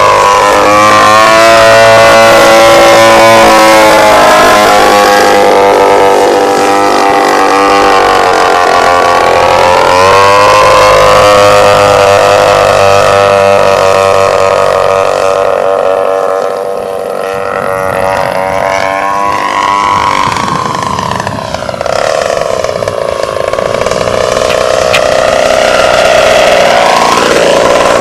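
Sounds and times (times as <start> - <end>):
model plane engine buzzing: 0.0 - 28.0.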